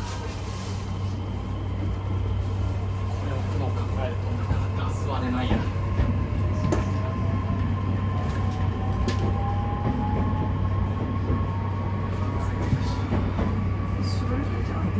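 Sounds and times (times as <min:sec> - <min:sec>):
train low rumble: 0:00.0 - 0:14.9.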